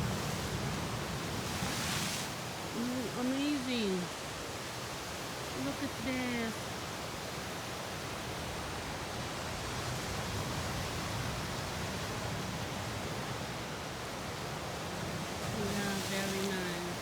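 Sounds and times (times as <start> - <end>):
ocean surf breaking against rocks: 0.0 - 17.0.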